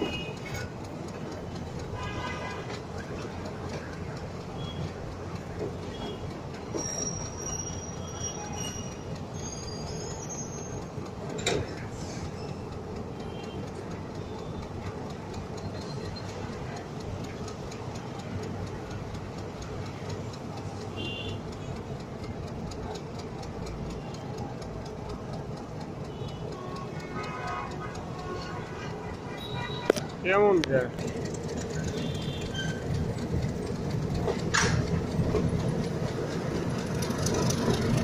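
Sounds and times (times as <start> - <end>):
high wheel squeals: 0.0 - 18.4, 25.2 - 38.0
train wheels rumbling on rails: 0.0 - 38.0.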